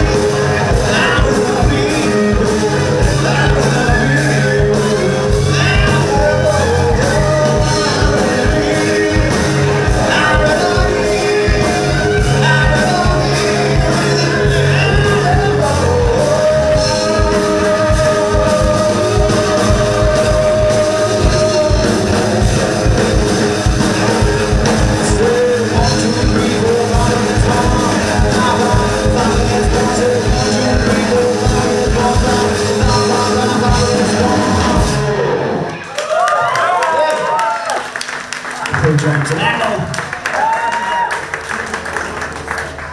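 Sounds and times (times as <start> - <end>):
person singing: 0.0 - 35.8
electric bass: 0.0 - 35.9
drum kit: 0.0 - 36.2
electric guitars: 0.0 - 42.9.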